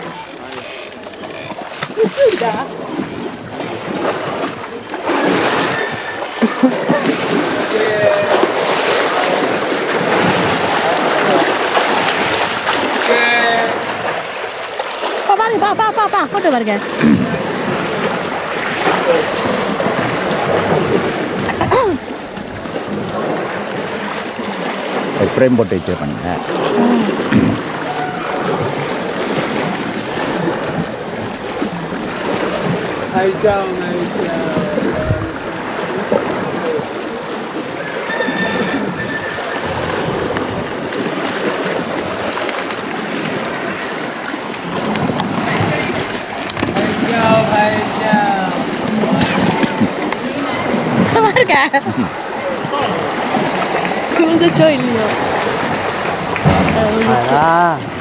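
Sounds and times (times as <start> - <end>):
water splashing and sloshing: 0.0 - 58.0.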